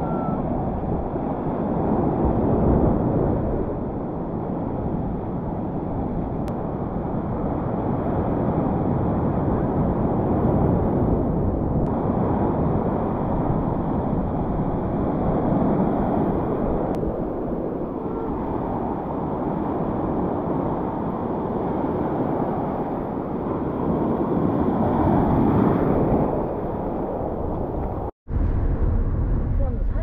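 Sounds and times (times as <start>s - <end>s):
surf breaking on sandy beach: 0.0s - 29.8s
wind buffeting microphone: 0.0s - 30.0s.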